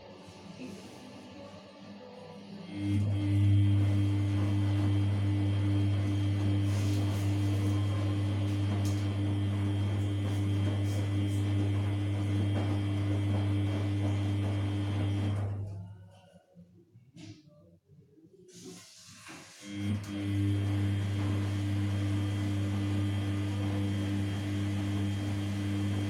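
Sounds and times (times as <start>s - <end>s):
washing machine electric hum: 0.0s - 16.2s, 19.6s - 26.0s.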